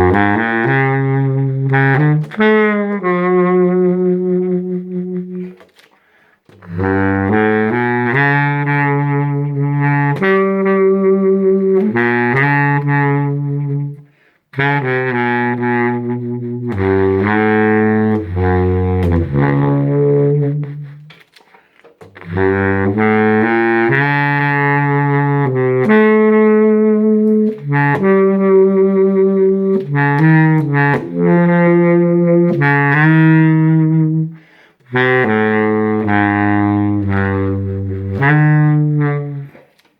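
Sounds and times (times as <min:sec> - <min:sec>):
baritone saxophone melody: 0:00.0 - 0:39.9.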